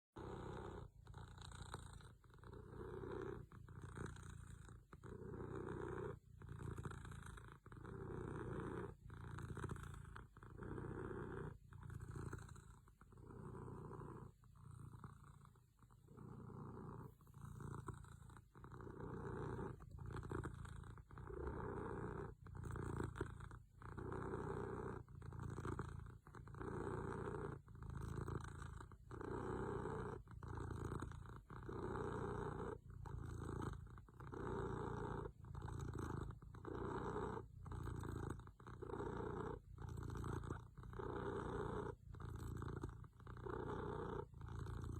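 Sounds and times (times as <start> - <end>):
cat purring: 0.1 - 44.9.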